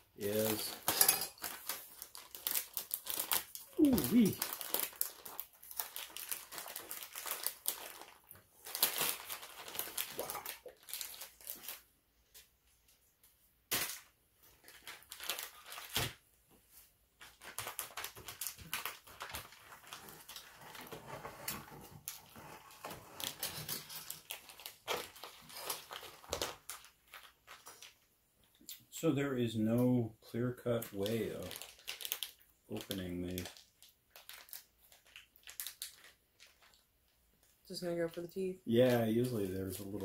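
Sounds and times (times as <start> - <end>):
packaging rustling and crinkling: 0.2 - 13.0, 13.7 - 28.1, 30.7 - 37.6, 38.8 - 40.0.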